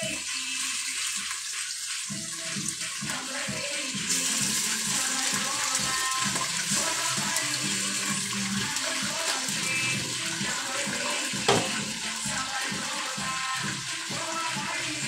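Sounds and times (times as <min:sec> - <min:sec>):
background music: 0:00.0 - 0:15.0
running water rushing: 0:00.0 - 0:15.0.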